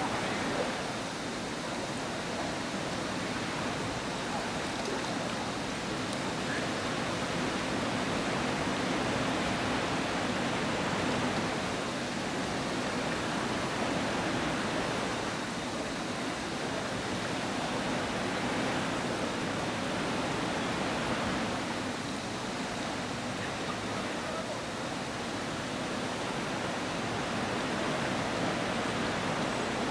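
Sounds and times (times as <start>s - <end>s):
white water rushing over weir: 0.0s - 29.9s.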